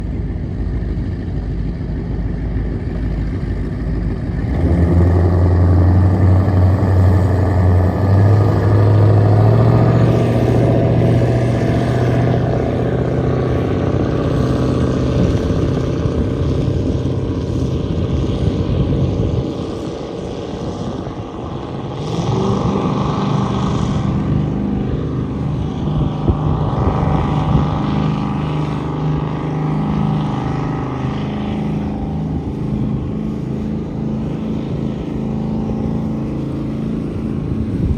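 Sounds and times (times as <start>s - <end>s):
powerboat engines running: 0.0s - 37.9s.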